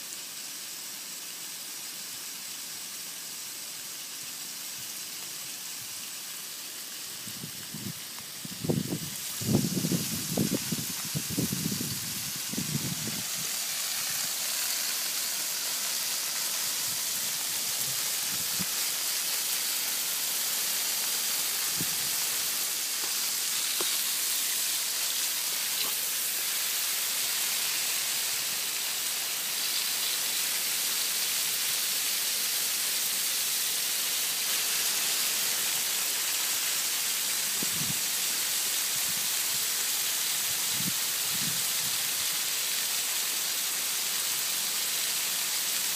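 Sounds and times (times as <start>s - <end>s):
garden hose spray hissing: 0.0s - 45.9s.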